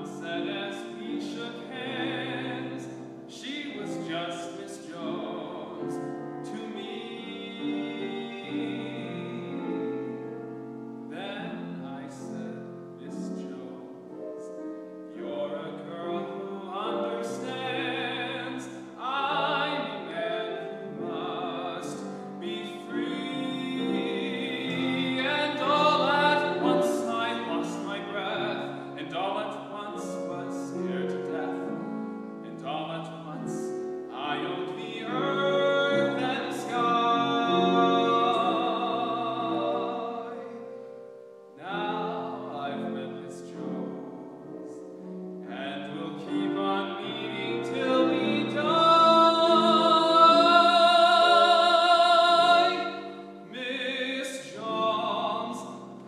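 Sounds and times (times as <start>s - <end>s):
person singing with vibrato: 0.0s - 40.8s, 41.4s - 56.0s.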